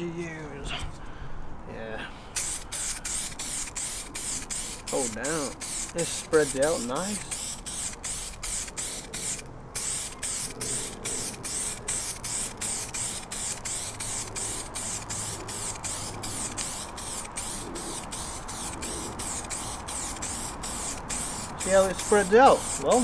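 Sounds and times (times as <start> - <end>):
aerosol can spraying hiss: 2.4 - 23.0.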